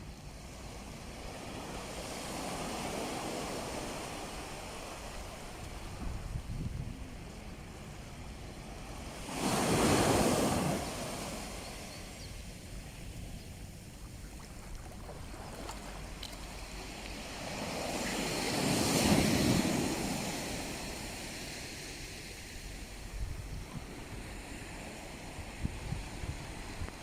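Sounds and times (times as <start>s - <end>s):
surf hiss: 0.0s - 27.0s
sea waves breaking on shore: 0.3s - 27.0s
wind on microphone: 1.1s - 11.6s, 12.2s - 27.0s.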